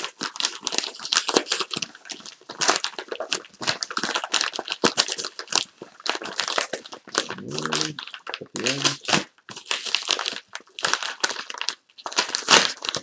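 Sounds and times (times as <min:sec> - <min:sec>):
paper envelope crinkling: 0:00.0 - 0:13.0.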